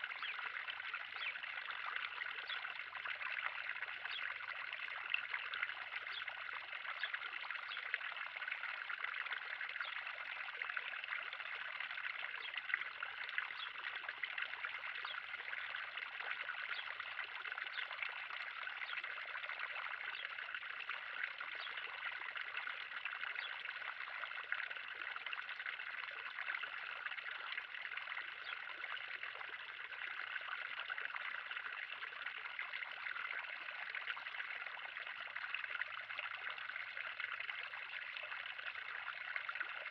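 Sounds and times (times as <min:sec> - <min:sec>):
water trickling in a pond: 0:00.0 - 0:39.9.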